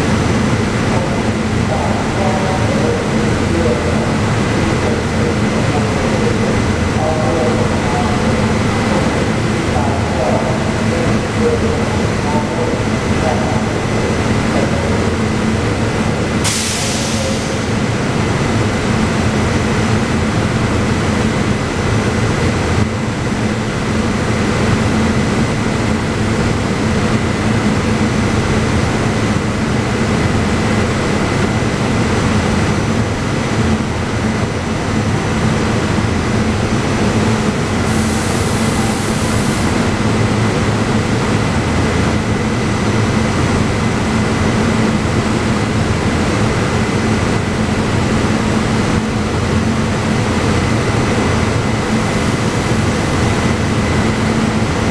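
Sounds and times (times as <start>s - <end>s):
train equipment hum and whine: 0.0s - 54.9s.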